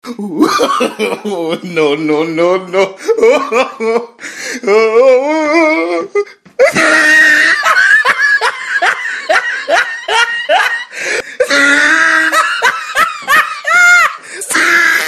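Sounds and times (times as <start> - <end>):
person laughing hard: 0.1 - 15.0.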